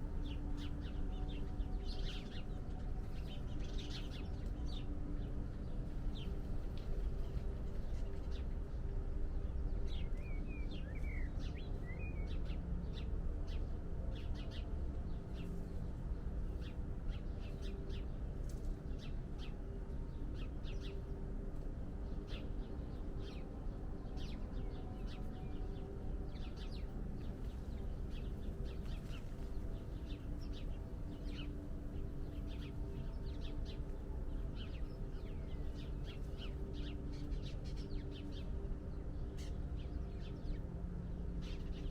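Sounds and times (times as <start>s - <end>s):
low background rumble and hum: 0.0s - 41.9s.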